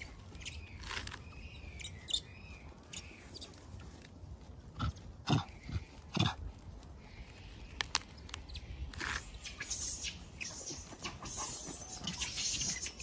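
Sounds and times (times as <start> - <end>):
monkey crunching cabbage leaves: 0.0 - 13.0.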